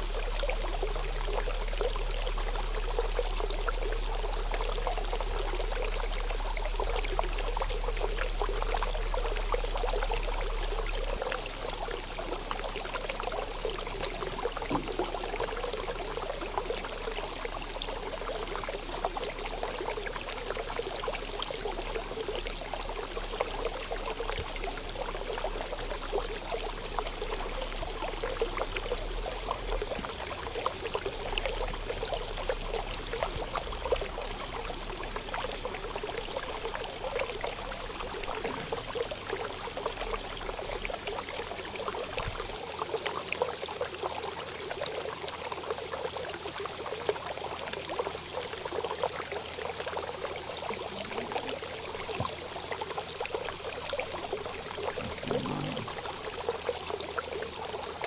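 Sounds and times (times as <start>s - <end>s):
running water pouring and trickling: 0.0s - 58.0s.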